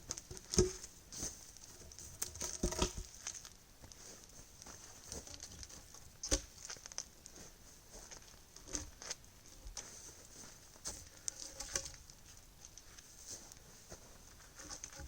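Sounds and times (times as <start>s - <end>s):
wood crunching and rustling: 0.0s - 15.0s.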